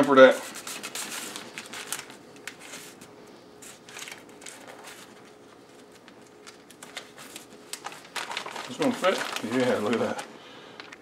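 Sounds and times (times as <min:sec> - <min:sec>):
faint steady hum: 0:00.0 - 0:11.0
plastic bag rustling and crinkling: 0:00.6 - 0:03.0, 0:03.6 - 0:11.0.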